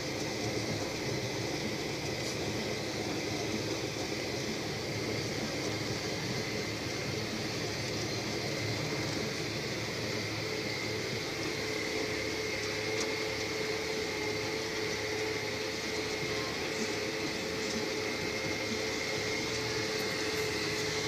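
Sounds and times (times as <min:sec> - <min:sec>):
steady whine: 0:00.0 - 0:21.0.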